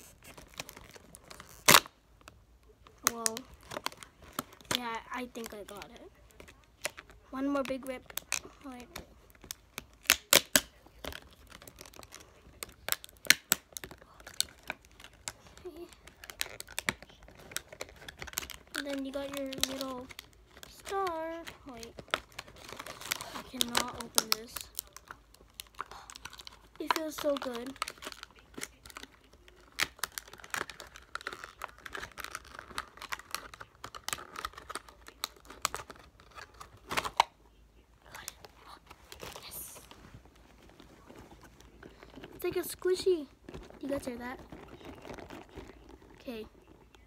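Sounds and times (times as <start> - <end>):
plastic packaging crinkling: 0.0 - 37.4, 38.1 - 47.0.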